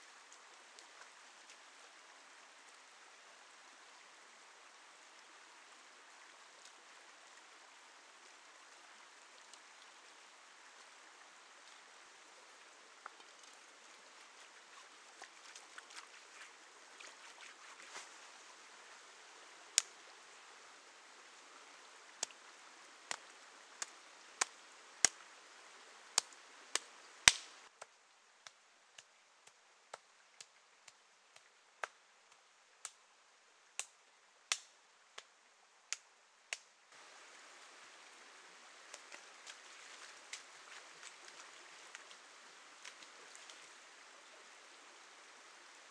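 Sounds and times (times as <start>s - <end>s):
stream running over stones: 0.0s - 45.9s.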